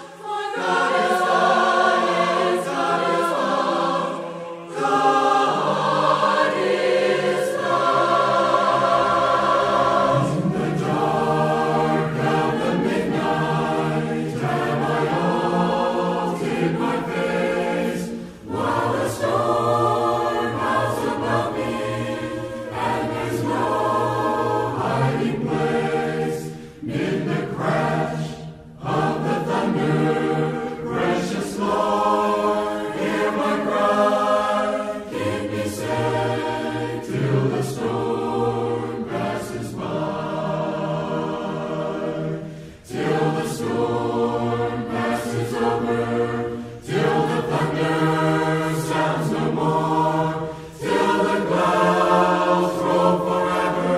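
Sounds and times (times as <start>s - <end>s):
choir singing: 0.0s - 53.9s.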